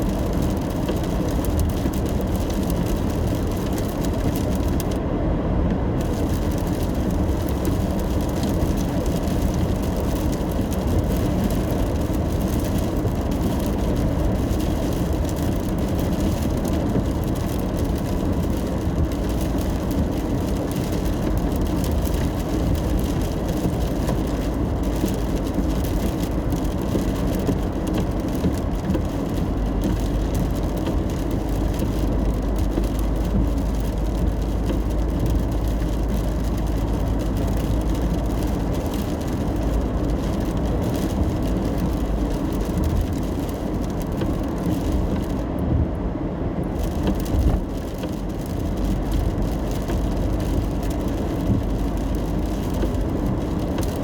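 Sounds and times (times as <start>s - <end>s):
rain hiss on wet road: 0.0s - 54.0s.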